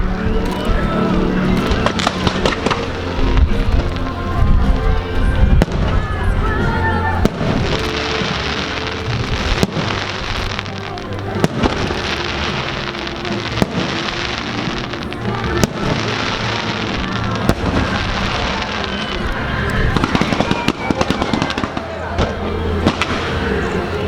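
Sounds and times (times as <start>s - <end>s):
fireworks crackling: 0.0s - 24.0s
music playing: 0.0s - 24.0s.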